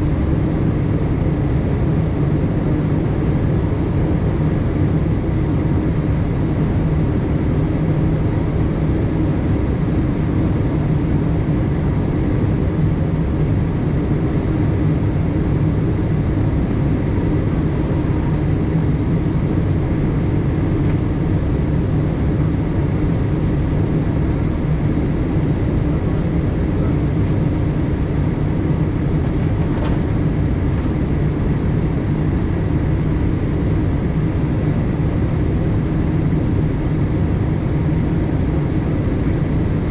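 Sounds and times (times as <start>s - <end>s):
aircraft engines humming: 0.0s - 39.9s.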